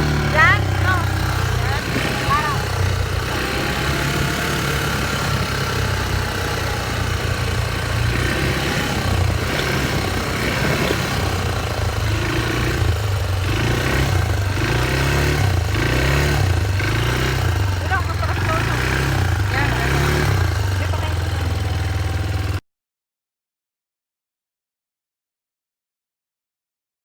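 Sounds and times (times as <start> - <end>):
quad bike engine running: 0.0 - 22.6.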